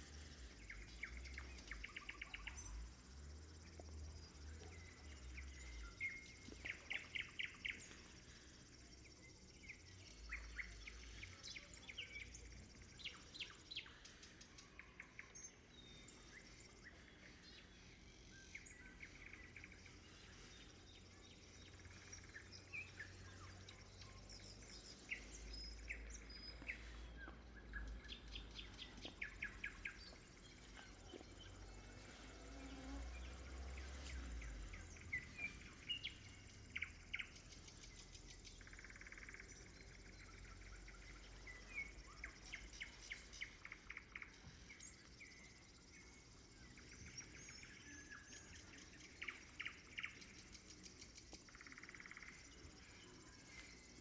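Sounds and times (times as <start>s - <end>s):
birds chirping: 0.0s - 54.0s
faint low rumble: 0.0s - 54.0s
nightingale singing: 0.0s - 54.0s.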